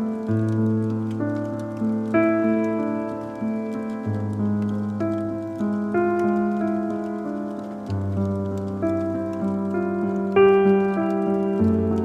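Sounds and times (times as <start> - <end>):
faint crackles: 0.0 - 12.0
slow soft piano music: 0.0 - 12.0.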